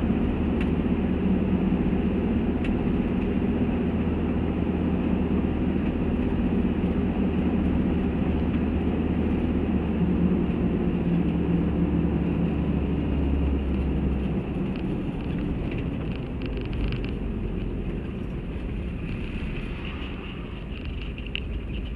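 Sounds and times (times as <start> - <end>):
deep low drone: 0.0 - 21.9
engine and road noise: 0.0 - 21.9.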